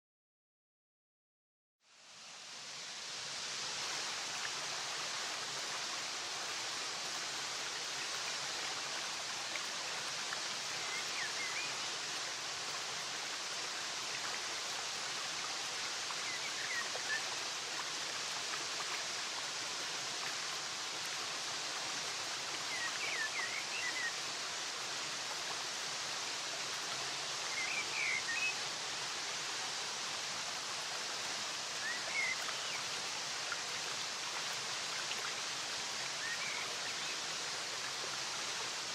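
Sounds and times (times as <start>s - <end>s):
water rushing: 2.0s - 38.9s.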